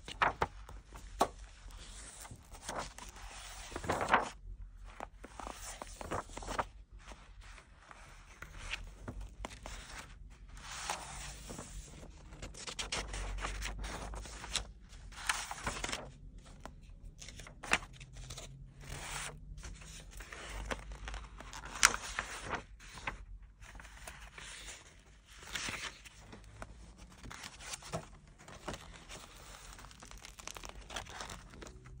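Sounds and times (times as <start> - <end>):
book pages turning: 0.0 - 32.0.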